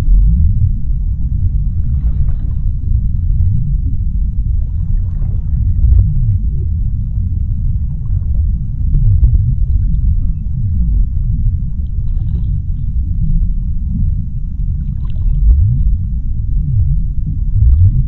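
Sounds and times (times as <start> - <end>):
deep underwater rumble: 0.0 - 18.0.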